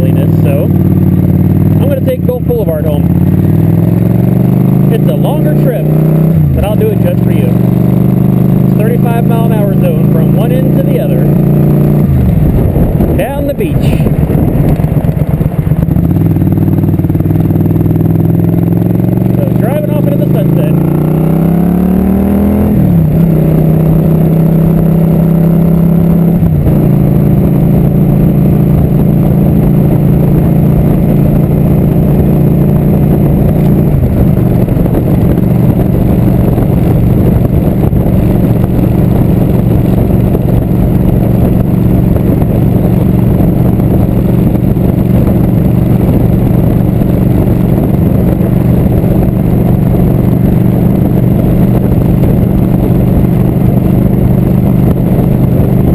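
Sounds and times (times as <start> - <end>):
motorcycle engine shifting gears: 0.0 - 55.9.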